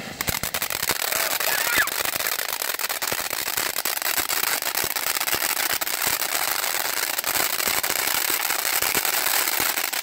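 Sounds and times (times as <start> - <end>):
firework fountain hissing and crackling: 0.0 - 10.0.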